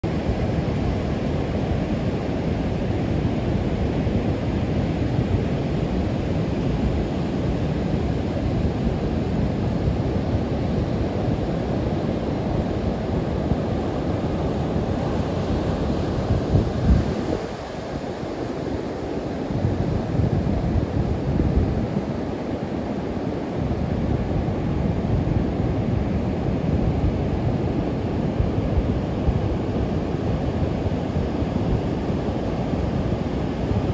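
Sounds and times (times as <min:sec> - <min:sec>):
wind buffeting microphone: 0:00.0 - 0:33.9
ocean surf rushing: 0:00.1 - 0:33.9.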